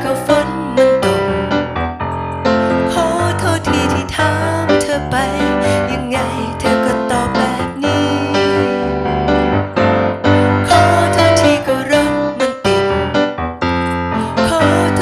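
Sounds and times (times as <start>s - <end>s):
piano chords and melody: 0.0s - 15.0s.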